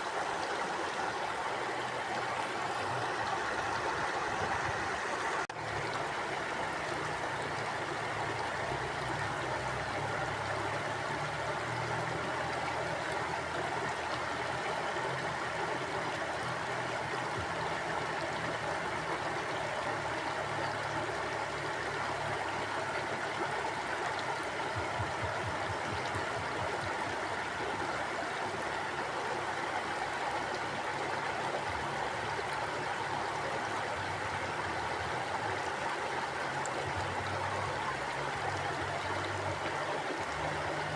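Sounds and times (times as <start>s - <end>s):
river flowing over rocks: 0.0s - 40.9s.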